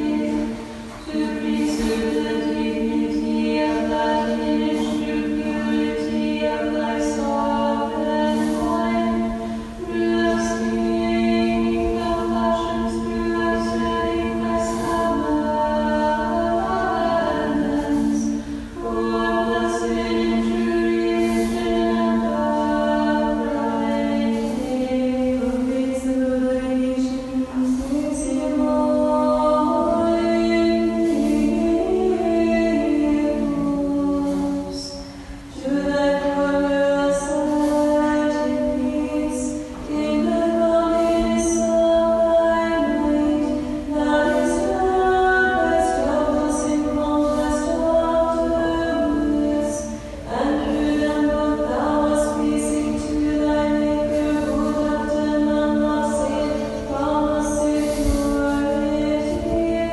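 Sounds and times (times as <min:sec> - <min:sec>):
choir chanting: 0:00.0 - 0:35.0, 0:35.6 - 0:59.9.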